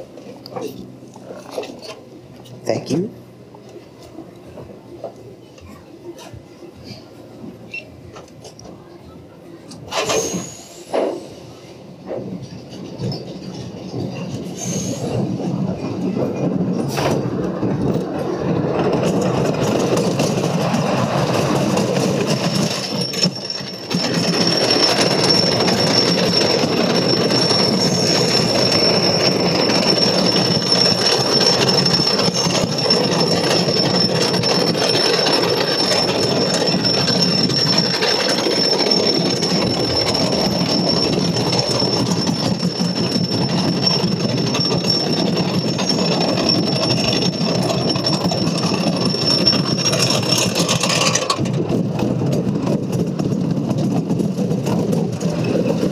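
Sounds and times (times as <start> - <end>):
roller coaster rumbling on track: 0.0 - 55.9.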